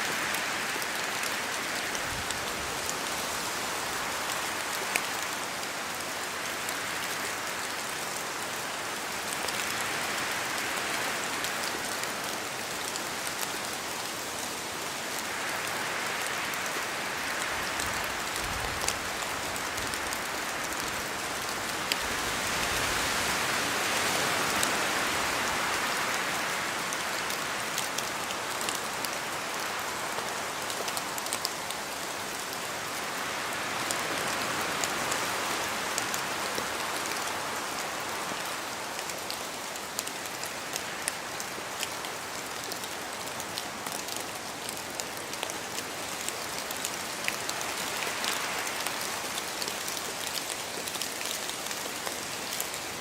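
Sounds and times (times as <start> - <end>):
rain falling in forest: 0.0 - 53.0
wind through trees: 0.0 - 53.0.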